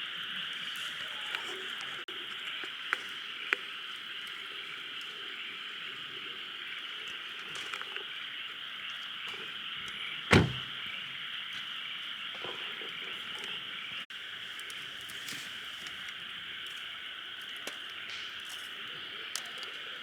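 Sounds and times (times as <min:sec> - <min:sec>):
frogs calling: 0:00.0 - 0:20.0.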